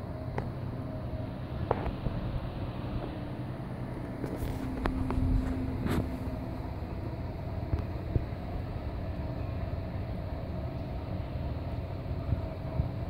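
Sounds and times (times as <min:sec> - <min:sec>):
aquarium pump humming: 0:00.0 - 0:13.0.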